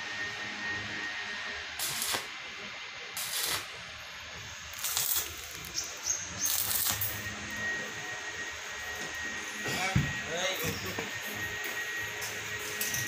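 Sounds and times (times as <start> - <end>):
arc welder crackling and sizzling: 0.0 - 13.0.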